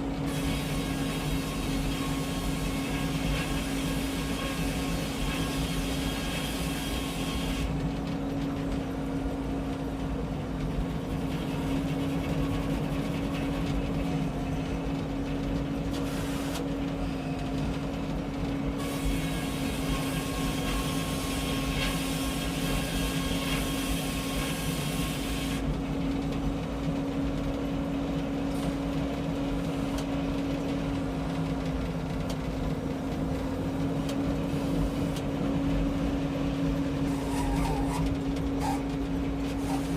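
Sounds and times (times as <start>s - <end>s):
sawmill engine drone: 0.0s - 39.9s.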